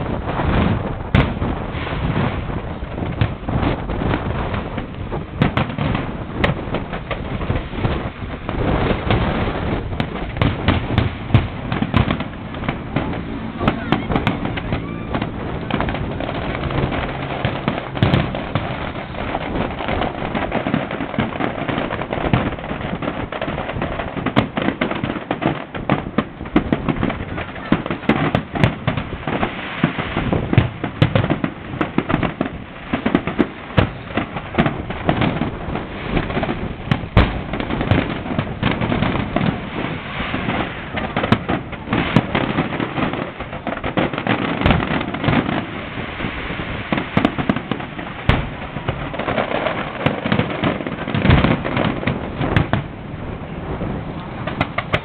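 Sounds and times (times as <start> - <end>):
fireworks cracking and banging: 0.0 - 55.0.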